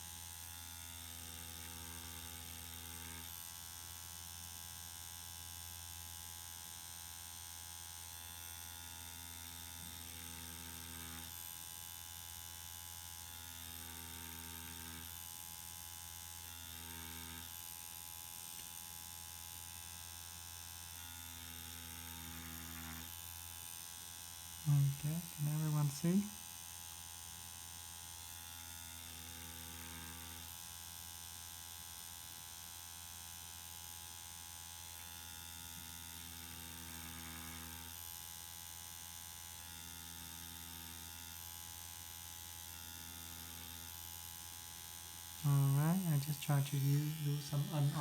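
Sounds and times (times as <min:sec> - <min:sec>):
small electric motor buzzing: 0:00.0 - 0:48.0.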